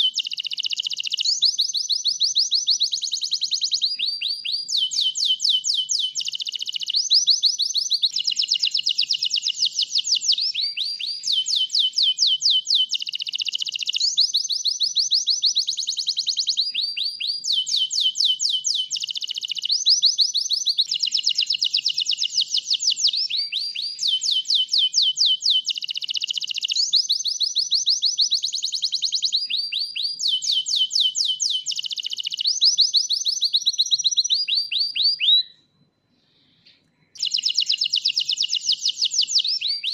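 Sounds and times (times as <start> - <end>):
canary singing trills: 0.0 - 35.6, 37.2 - 39.9.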